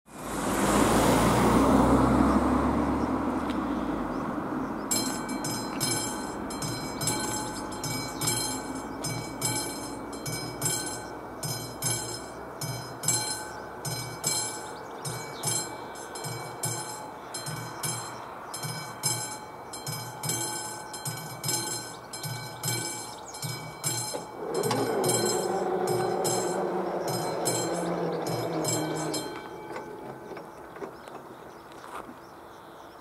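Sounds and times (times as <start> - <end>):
car driving over level crossing: 4.8 - 31.3
crossing warning bell ringing: 4.8 - 31.3.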